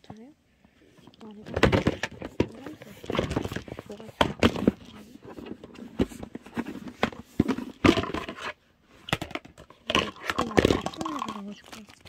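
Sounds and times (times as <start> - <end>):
plastic case rustle: 0.9 - 12.0
plastic toys clicking and knocking: 1.0 - 12.0.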